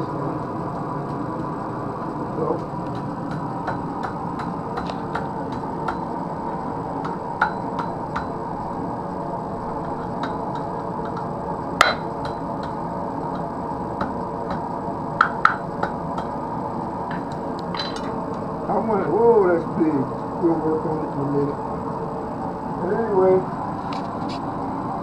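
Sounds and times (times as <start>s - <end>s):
forge hum: 0.0s - 25.0s.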